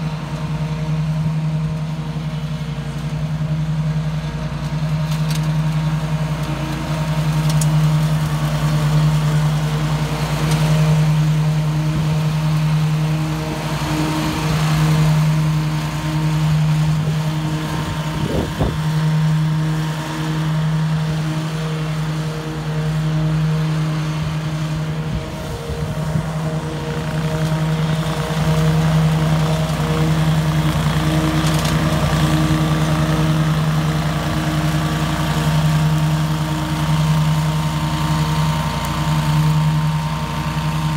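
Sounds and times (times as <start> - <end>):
mower engine running: 0.0 - 40.9.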